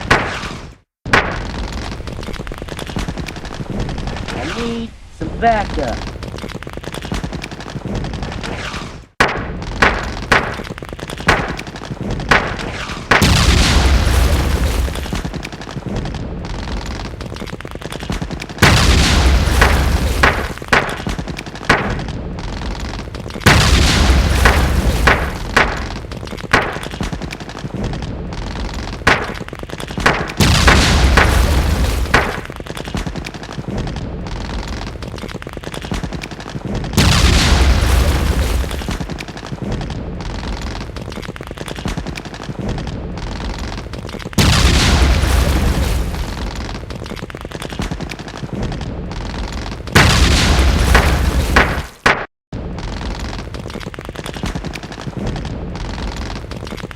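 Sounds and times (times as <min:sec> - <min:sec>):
explosions with deep rumble: 0:00.0 - 0:56.9
gunfire shots and bursts: 0:00.0 - 0:56.9
noisy battle din: 0:00.0 - 0:56.9.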